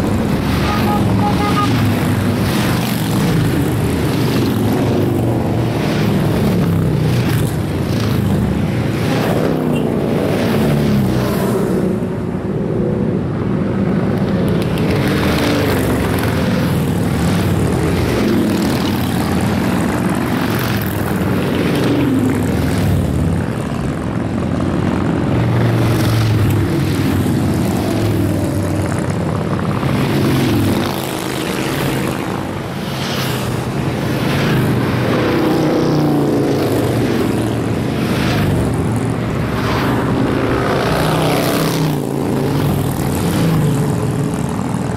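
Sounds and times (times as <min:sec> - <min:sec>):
motorcycles riding past: 0:00.0 - 0:12.3, 0:13.7 - 0:44.9.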